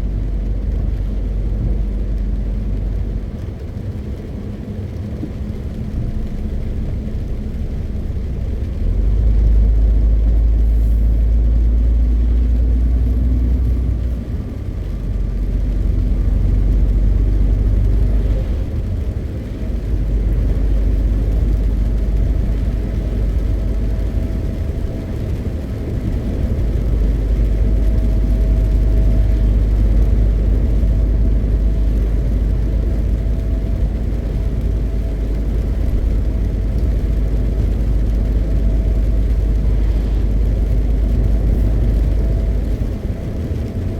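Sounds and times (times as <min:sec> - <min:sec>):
diesel truck engine rumbling: 0:00.0 - 0:43.9
road noise: 0:00.0 - 0:43.9.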